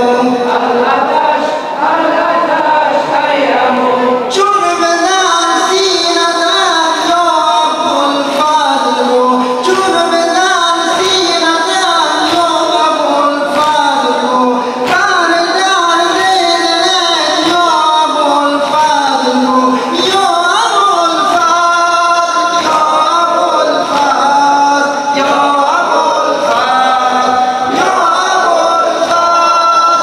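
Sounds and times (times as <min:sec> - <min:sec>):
man singing lament through microphone: 0:00.0 - 0:30.0
rhythmic chest-beating: 0:00.0 - 0:30.0.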